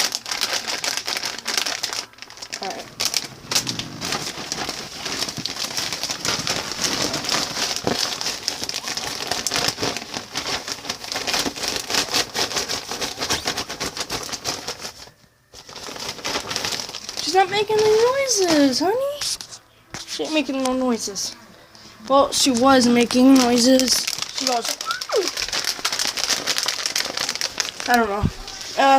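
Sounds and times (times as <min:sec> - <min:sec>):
plastic chip bag crinkling: 0:00.0 - 0:21.4, 0:22.0 - 0:28.9.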